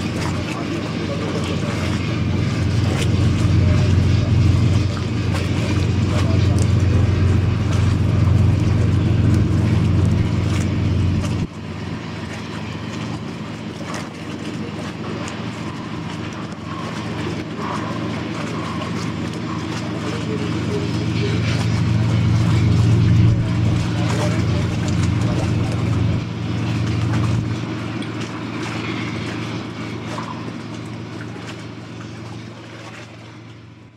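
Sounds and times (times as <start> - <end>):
boat engine drone: 0.0 - 33.9
wake rushing water: 0.0 - 33.9.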